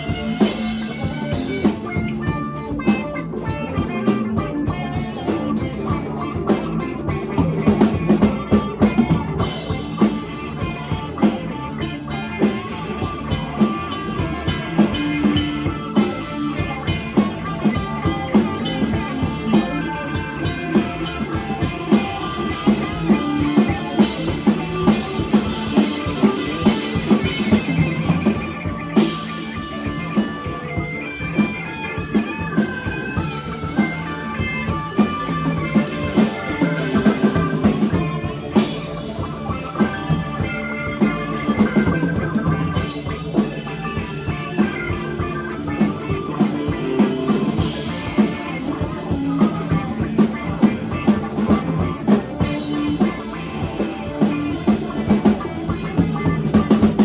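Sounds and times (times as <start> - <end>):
drum kit beat: 0.0 - 57.0
guitar melody: 0.0 - 57.0
rock band playing: 0.0 - 57.0.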